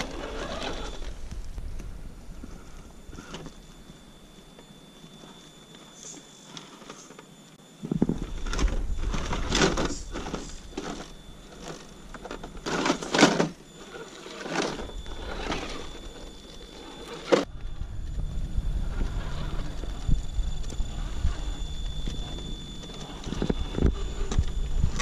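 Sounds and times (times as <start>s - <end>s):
gravel crunching under tyres: 0.0s - 7.1s, 7.8s - 25.0s
electric motor and gears whirring: 0.0s - 25.0s.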